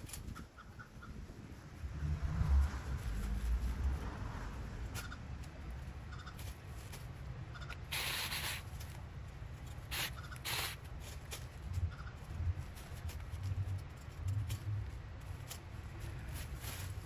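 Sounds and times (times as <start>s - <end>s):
dry brush rustling and crackling: 0.0s - 17.0s
low steady rumble: 0.0s - 17.0s.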